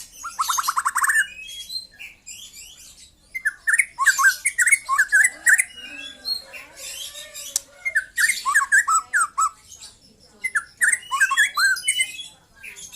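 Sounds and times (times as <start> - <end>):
bird singing: 0.0 - 12.9.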